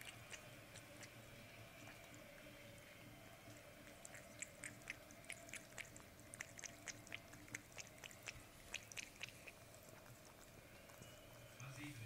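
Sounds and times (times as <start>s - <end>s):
cat lapping milk: 0.0s - 11.6s.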